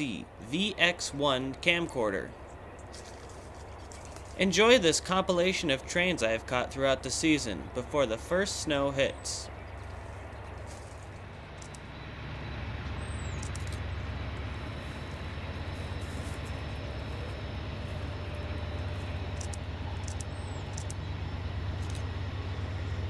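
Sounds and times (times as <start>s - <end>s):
diesel locomotives rumbling: 0.0s - 23.0s.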